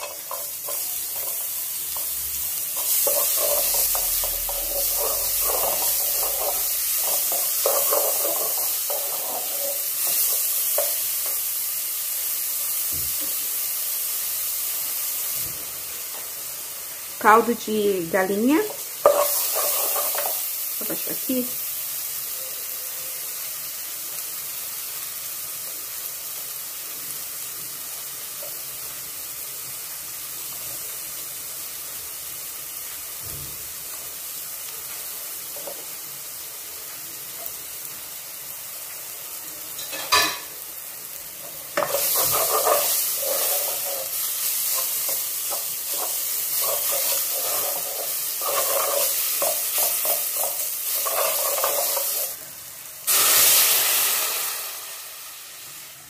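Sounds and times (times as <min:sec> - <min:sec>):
garlic and onion sizzling in oil: 0:00.0 - 0:56.0.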